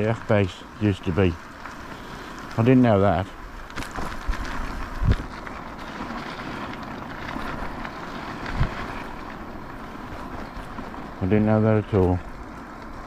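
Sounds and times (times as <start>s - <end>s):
steady rushing noise: 0.0s - 13.0s
wind buffeting microphone: 0.0s - 13.0s.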